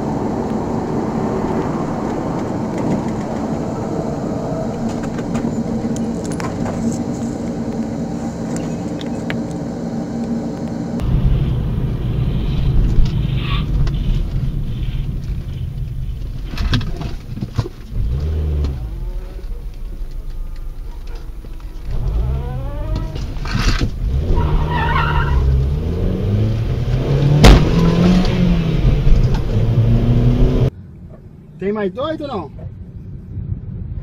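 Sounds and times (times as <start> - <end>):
car engine revving: 0.0 - 30.7.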